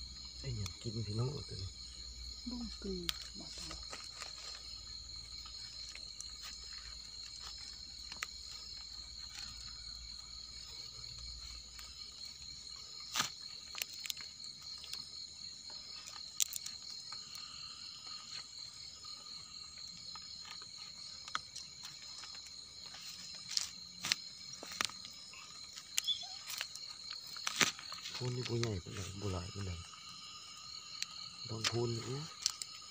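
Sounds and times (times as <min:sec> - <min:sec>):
night insects trilling: 0:00.0 - 0:32.9.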